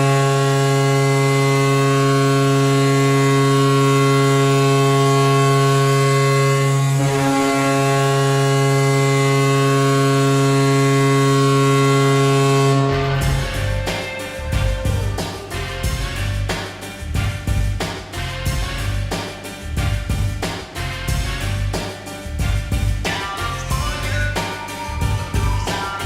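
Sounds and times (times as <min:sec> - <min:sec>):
goal horn blast: 0:00.0 - 0:26.0.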